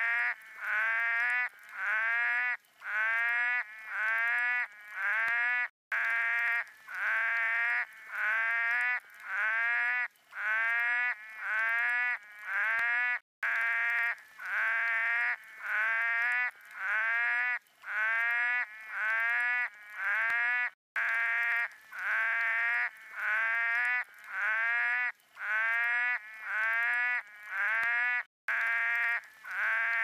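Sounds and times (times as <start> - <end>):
frog calling: 0.0 - 30.0.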